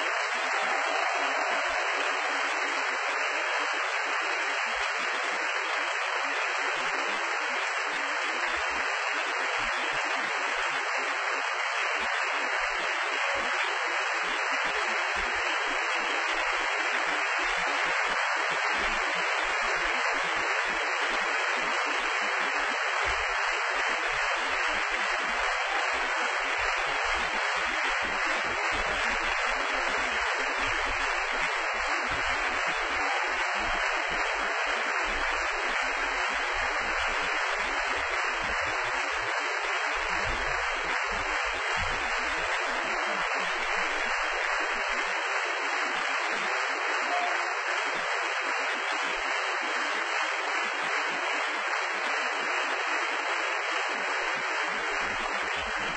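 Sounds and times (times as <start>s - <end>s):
audience applauding: 0.0s - 55.9s.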